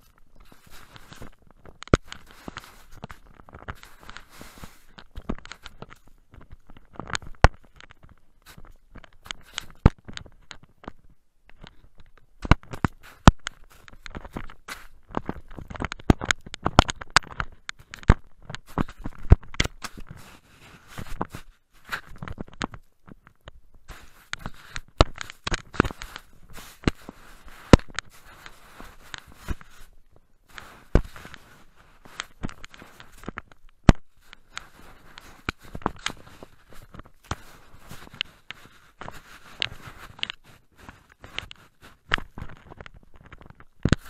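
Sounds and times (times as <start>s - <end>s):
camera being bumped and rubbed: 0.0s - 44.0s.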